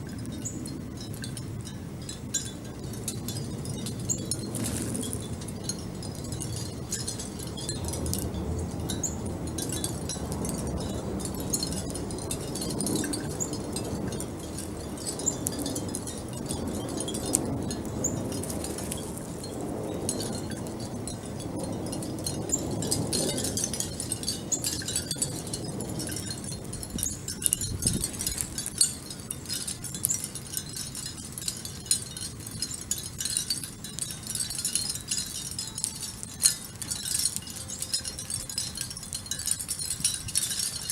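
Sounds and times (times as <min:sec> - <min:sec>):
high chime-like tinkling: 0:00.0 - 0:40.9
low background rumble: 0:00.0 - 0:40.9.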